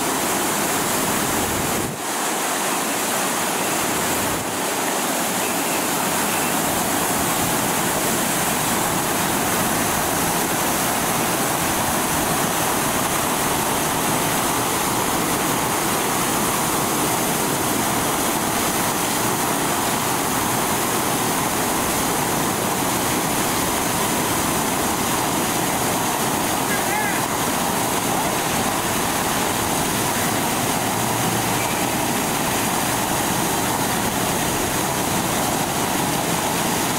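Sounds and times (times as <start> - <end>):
water gushing from a hydrant: 0.0 - 36.9.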